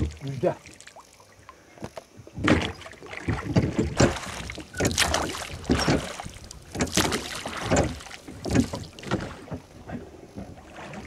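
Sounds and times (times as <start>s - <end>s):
oars pulling through water: 0.0s - 11.0s.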